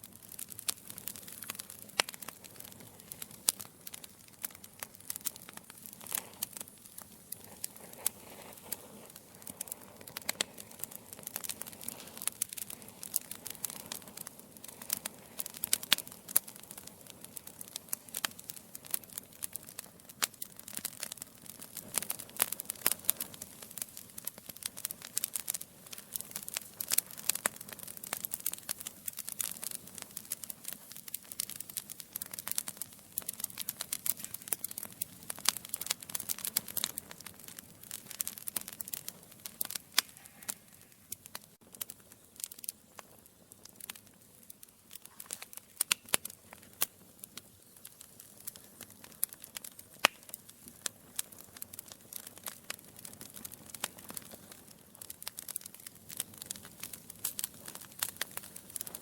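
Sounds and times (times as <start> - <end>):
hiss of flame: 0.0 - 59.0
logs crackling and popping: 0.0 - 59.0.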